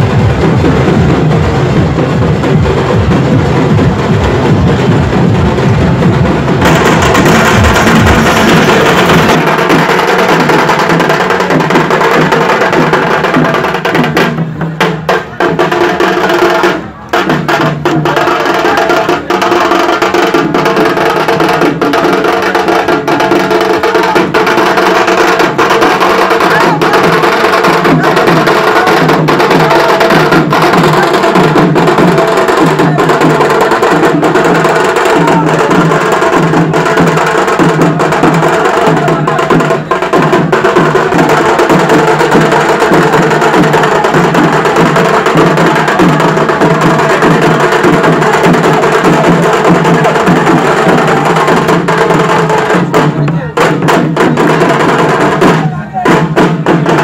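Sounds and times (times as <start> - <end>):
loud dance music with heavy beat: 0.0 - 16.7, 17.5 - 57.0.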